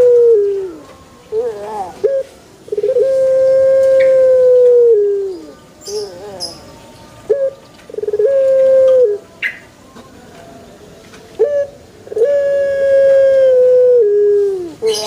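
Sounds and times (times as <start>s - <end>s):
dove cooing: 0.0s - 6.6s, 7.3s - 9.6s, 11.4s - 15.0s.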